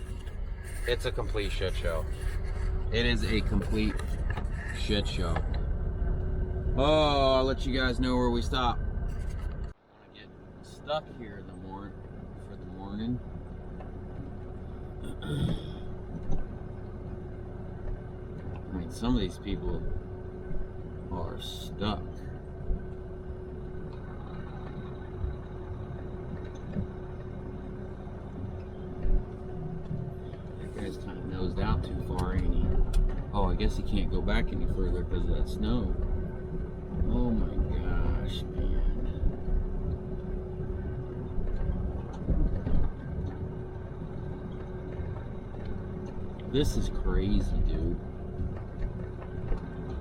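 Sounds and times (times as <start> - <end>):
steady hum: 0.0 - 50.0
truck engine running: 0.0 - 50.0.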